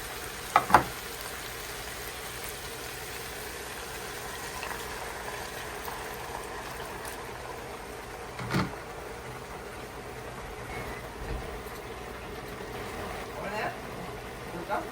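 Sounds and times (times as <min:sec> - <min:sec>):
meat sizzling in a pan: 0:00.0 - 0:14.9.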